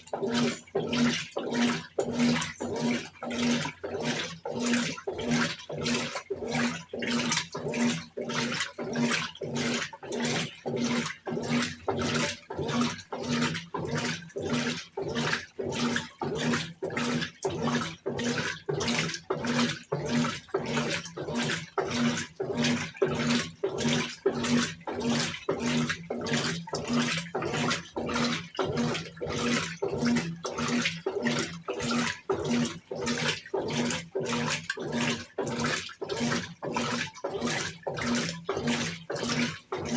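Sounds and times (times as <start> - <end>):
washing machine motor hum: 0.0 - 39.9
washing machine sloshing: 0.0 - 39.9.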